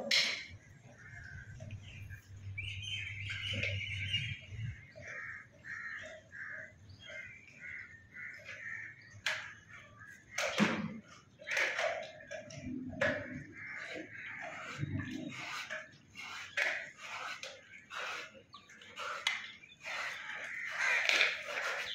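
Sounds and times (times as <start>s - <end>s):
bird harsh calls: 0.0s - 21.9s.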